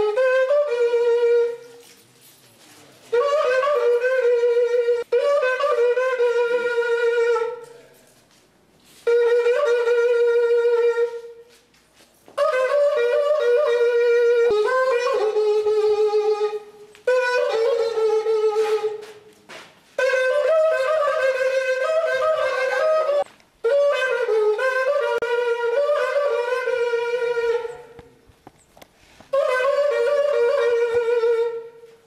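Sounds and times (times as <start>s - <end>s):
wind instrument wavering phrases: 0.0s - 2.0s, 3.0s - 8.0s, 9.0s - 11.6s, 12.4s - 19.2s, 20.0s - 28.3s, 29.3s - 32.0s.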